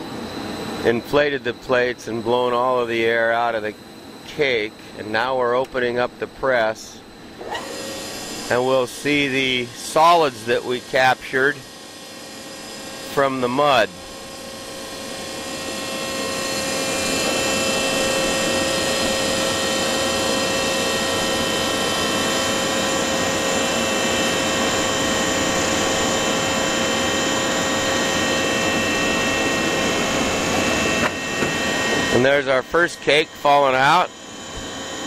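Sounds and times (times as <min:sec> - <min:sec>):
hydraulic motor and pump whine: 0:00.0 - 0:35.0.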